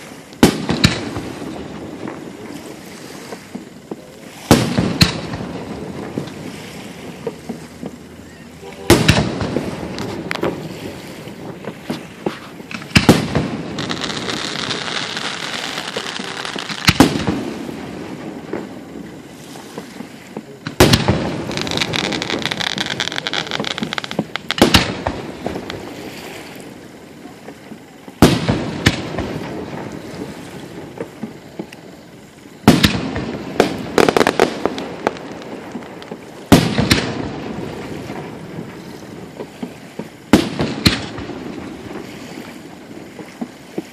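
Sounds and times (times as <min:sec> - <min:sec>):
fireworks bursting with sharp bangs: 0:00.0 - 0:43.9
fireworks crackle: 0:00.0 - 0:43.9.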